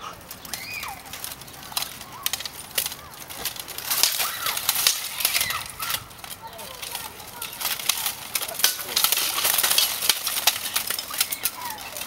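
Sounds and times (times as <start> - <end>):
armour and swords clanking: 0.0 - 12.0.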